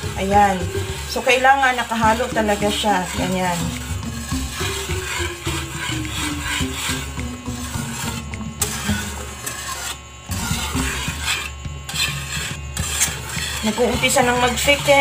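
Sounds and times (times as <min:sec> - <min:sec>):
utensil scraping pot bottom: 0:00.0 - 0:15.0.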